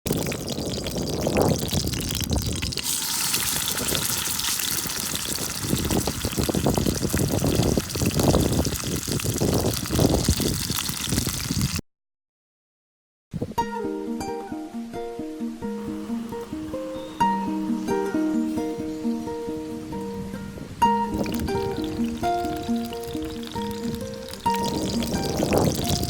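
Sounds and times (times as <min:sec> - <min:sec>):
running water gurgling: 0:00.0 - 0:11.7, 0:15.8 - 0:26.0.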